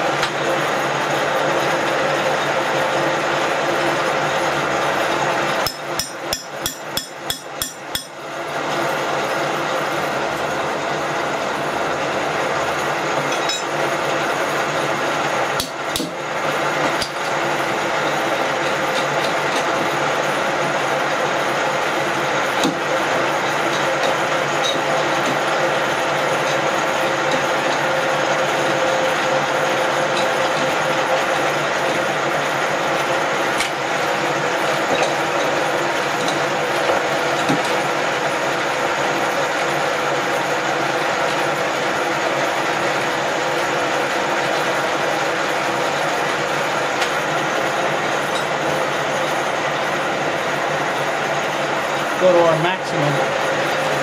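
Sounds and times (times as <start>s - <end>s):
milling machine whirring: 0.0s - 54.0s.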